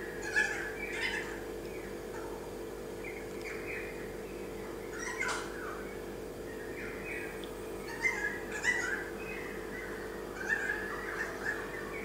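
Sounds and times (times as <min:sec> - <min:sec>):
bird calling: 0:00.0 - 0:02.4, 0:03.0 - 0:12.0.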